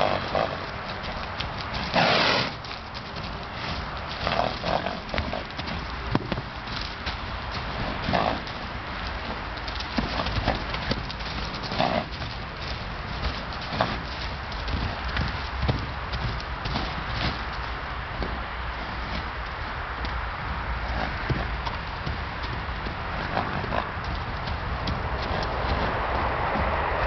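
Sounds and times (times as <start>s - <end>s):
horse snorting: 0.0s - 26.8s
hooves knocking on ground: 0.0s - 27.0s.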